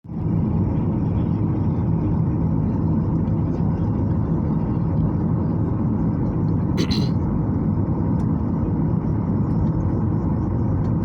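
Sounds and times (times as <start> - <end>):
airplane cabin rumble: 0.1 - 11.0.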